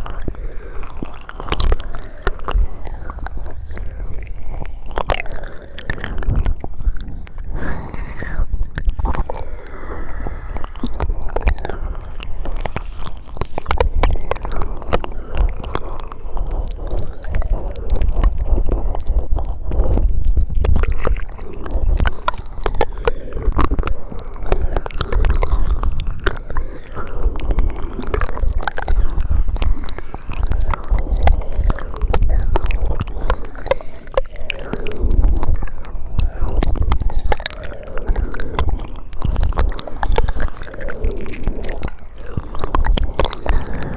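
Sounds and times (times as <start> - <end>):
heavy low rumble: 0.0 - 43.9
lip and tongue clicks: 0.0 - 43.9.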